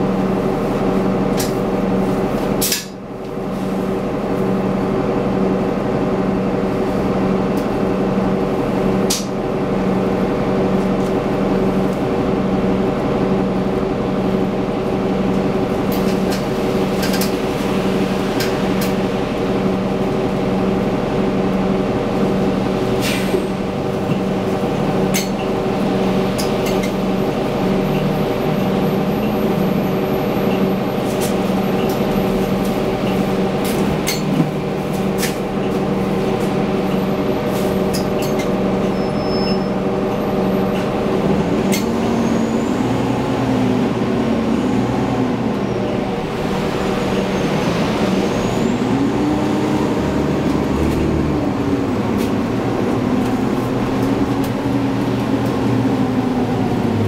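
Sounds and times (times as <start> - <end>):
bus engine humming: 0.0 - 57.0.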